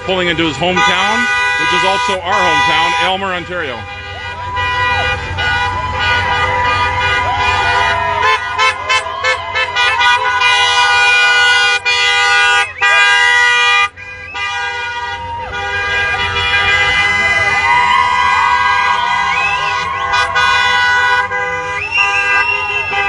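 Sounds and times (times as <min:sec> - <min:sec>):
vehicle horns honking: 0:00.0 - 0:23.0.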